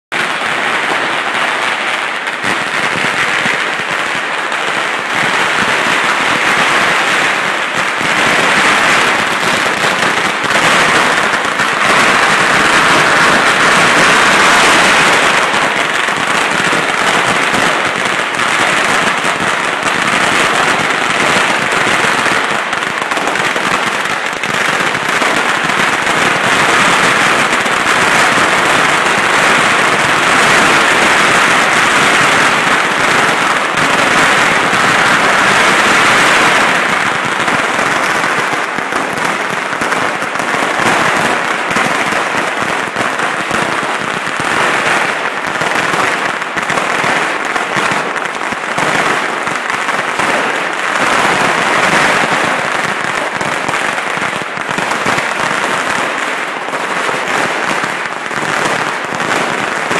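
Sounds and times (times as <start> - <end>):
firecrackers going off: 0.1 - 59.9.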